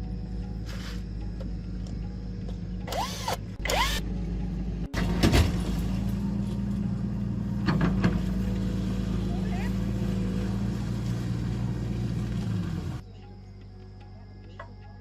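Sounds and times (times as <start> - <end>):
diesel engine droning: 0.0 - 14.6.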